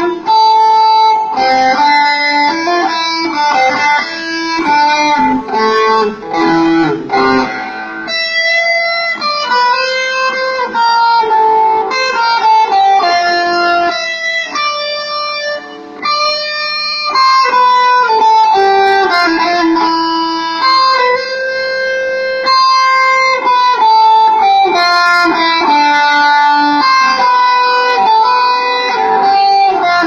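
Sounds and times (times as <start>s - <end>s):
electric guitar melody: 0.0s - 30.0s.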